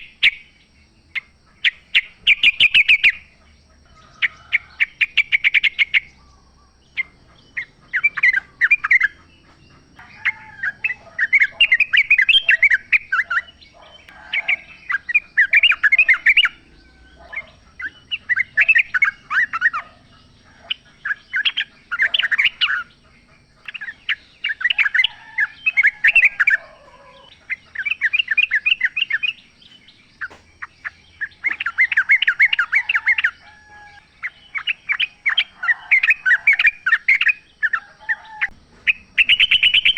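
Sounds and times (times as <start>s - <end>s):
bulbuls chattering song: 0.0s - 39.9s.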